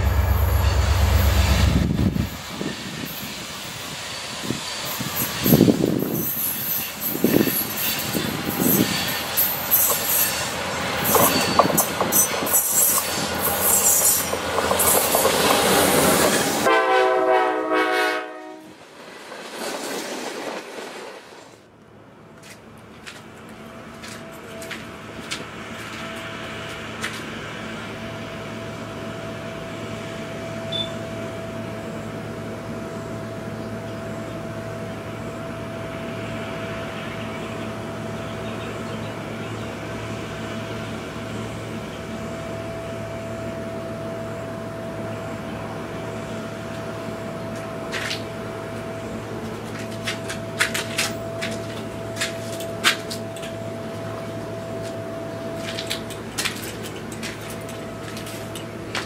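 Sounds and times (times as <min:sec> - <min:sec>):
diesel locomotive engine droning: 0:00.0 - 0:19.5, 0:20.3 - 0:59.0.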